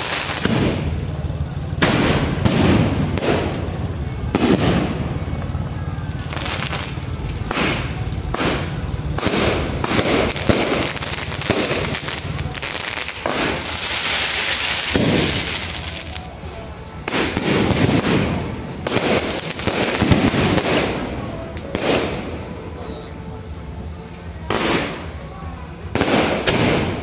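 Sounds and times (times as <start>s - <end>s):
hiss of rising fireworks: 0.0s - 22.8s, 23.9s - 27.0s
fireworks bangs: 0.0s - 23.3s, 24.4s - 25.2s, 25.8s - 27.0s.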